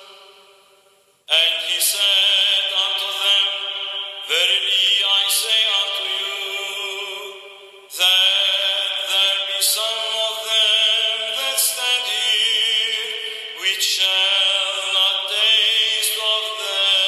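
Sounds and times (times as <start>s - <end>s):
liturgical chant singing: 0.0s - 0.6s, 1.3s - 17.0s.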